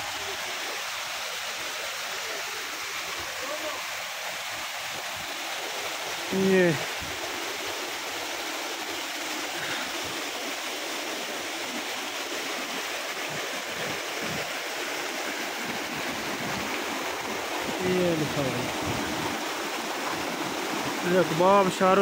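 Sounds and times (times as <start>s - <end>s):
waterfall rushing over boulders: 0.0s - 22.0s.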